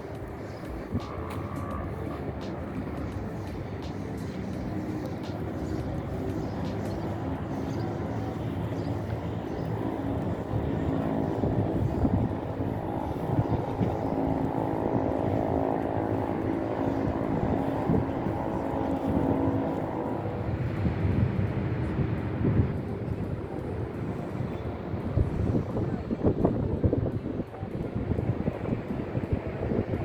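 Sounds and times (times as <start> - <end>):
vehicle engine droning: 0.0 - 26.1
traffic rumble: 0.0 - 30.0.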